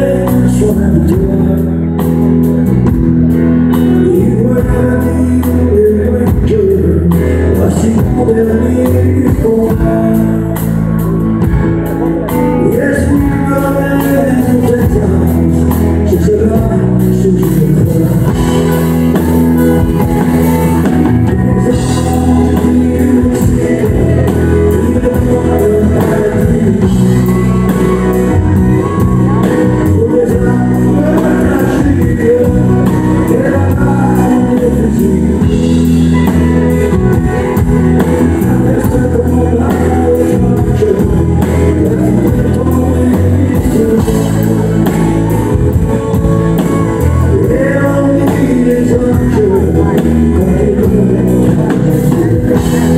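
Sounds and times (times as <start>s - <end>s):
man singing into a microphone: 0.0s - 52.9s.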